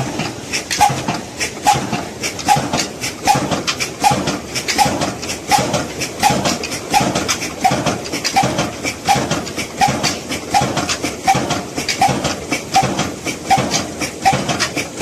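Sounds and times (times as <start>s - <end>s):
diesel engine slow beat: 0.0s - 15.0s
rapid clattering clicks: 0.0s - 15.0s.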